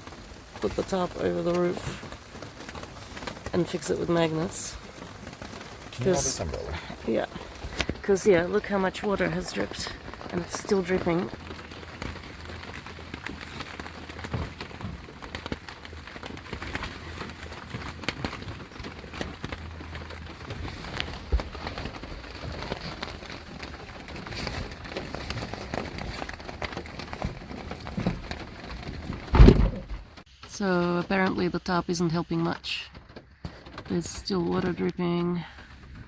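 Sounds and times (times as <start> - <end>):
steady rain falling: 0.0 - 31.4.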